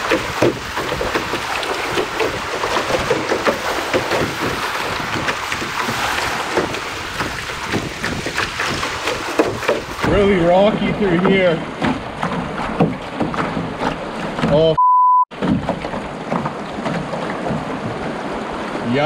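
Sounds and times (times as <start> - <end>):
whitewater rushing and splashing: 0.0 - 19.0.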